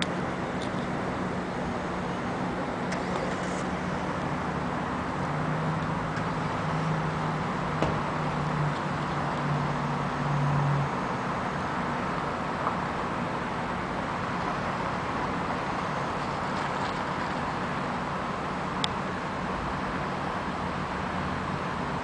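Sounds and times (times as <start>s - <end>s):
traffic hum: 0.0s - 22.0s.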